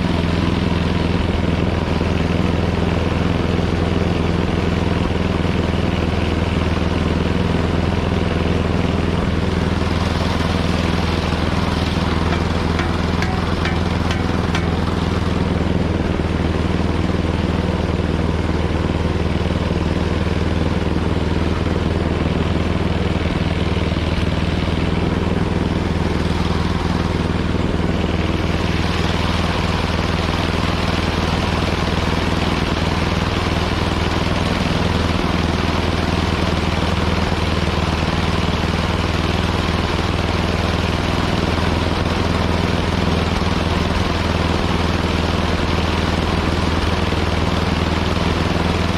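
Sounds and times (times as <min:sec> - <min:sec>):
snowblower engine running: 0:00.0 - 0:48.9.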